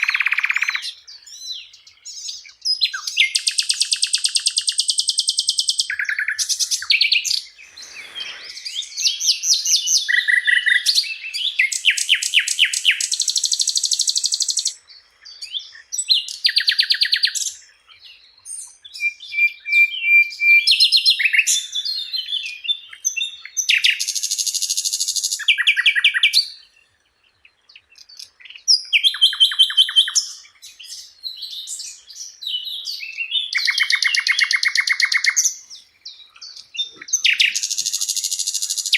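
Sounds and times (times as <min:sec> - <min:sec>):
flycatcher singing: 0:00.0 - 0:38.9.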